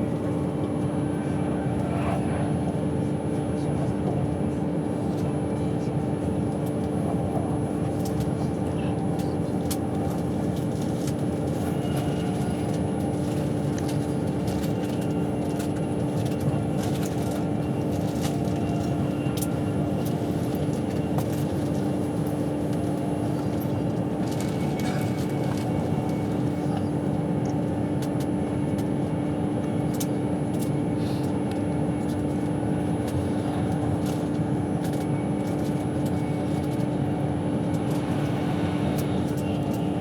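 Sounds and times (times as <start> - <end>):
constant low hum: 0.0 - 40.0.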